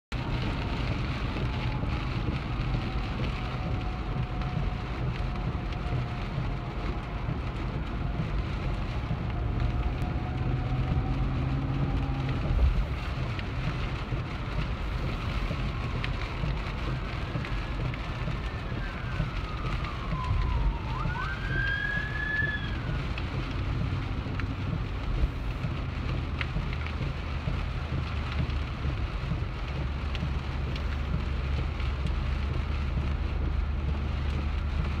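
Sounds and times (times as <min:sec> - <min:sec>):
low road and engine rumble: 0:00.0 - 0:35.0
heavy rain: 0:00.1 - 0:35.0.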